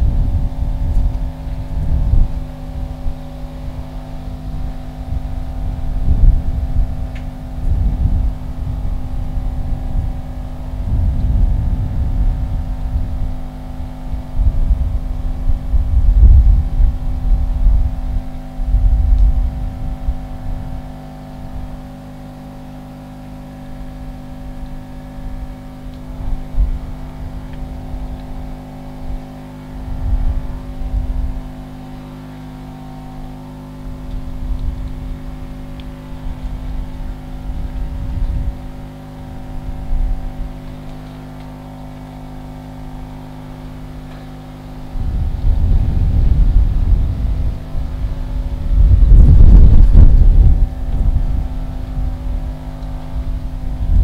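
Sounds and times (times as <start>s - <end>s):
low rumbles: 0.0s - 22.8s, 23.4s - 54.0s
machine hum: 0.0s - 54.0s.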